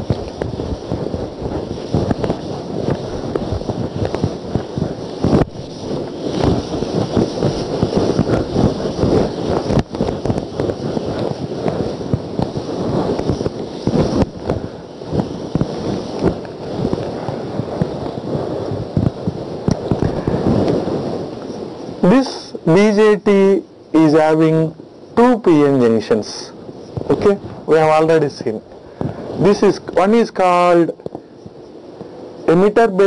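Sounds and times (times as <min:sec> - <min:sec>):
dense crackling noise: 0:00.0 - 0:33.0.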